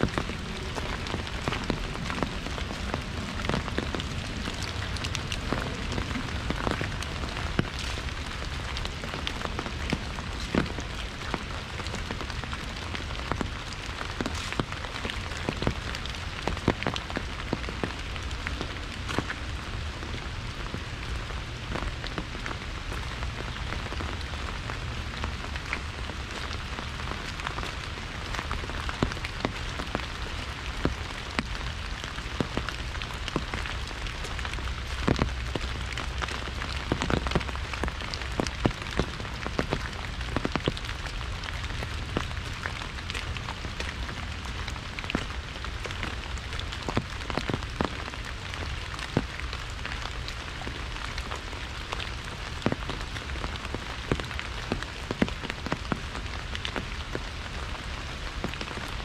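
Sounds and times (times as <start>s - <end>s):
rain on an umbrella: 0.0s - 59.0s.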